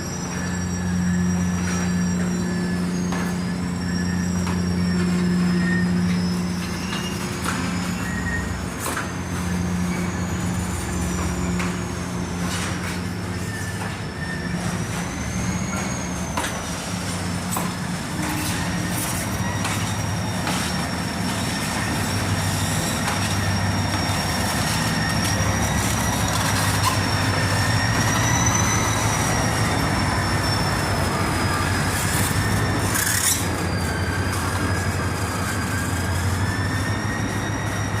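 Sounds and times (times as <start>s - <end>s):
locomotive engine humming: 0.0s - 38.0s
train wheels squealing: 0.0s - 38.0s
wheels ticking over rail joints: 0.2s - 38.0s.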